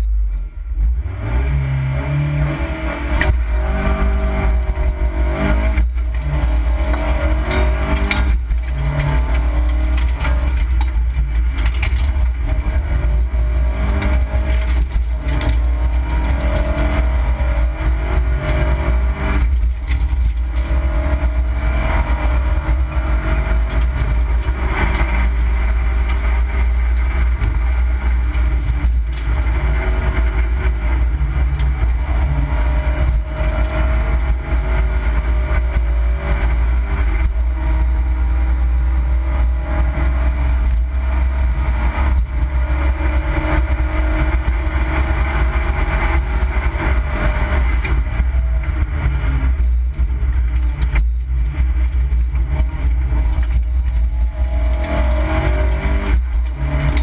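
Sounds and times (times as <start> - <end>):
car engine revving: 0.0 - 57.0
low road rumble: 0.0 - 57.0.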